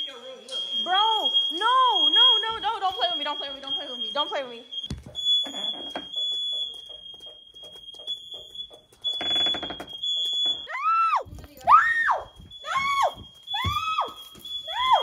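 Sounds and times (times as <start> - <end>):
fire alarm high-pitched tone: 0.0 - 15.0.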